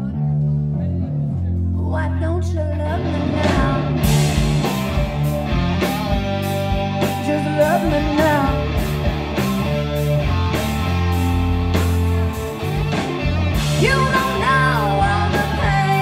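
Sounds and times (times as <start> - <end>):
bending guitar notes: 0.0 - 16.0
rock band playing: 2.5 - 16.0.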